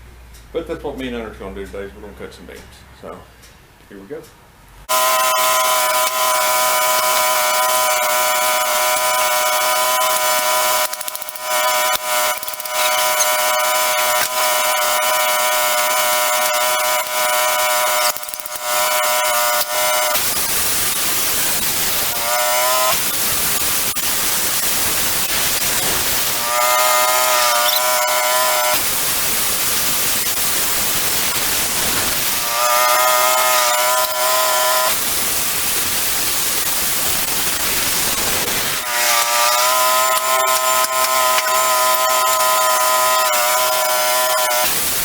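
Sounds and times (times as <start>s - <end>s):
bandsaw blade sawing log: 4.9s - 45.0s.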